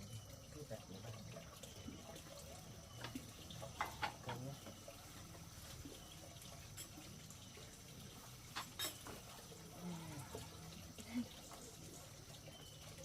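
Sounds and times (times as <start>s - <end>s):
faint water trickle: 0.0s - 13.0s.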